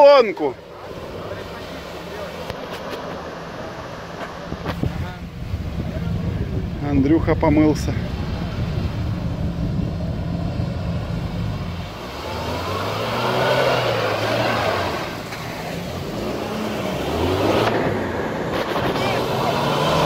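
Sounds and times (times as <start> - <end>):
off-road vehicle engine revving: 0.0 - 20.0
second suv engine revving: 0.0 - 20.0.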